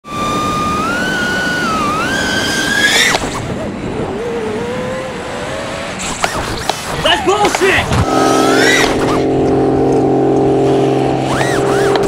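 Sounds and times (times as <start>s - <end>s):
quadcopter motors whining: 0.0s - 9.6s, 10.7s - 12.0s
rush of wind: 0.0s - 12.0s.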